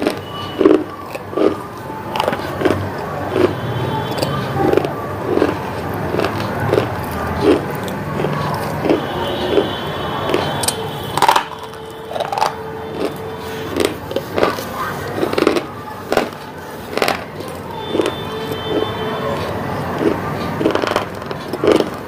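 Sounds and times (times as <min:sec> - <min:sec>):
mouth crunching food: 0:00.0 - 0:22.0.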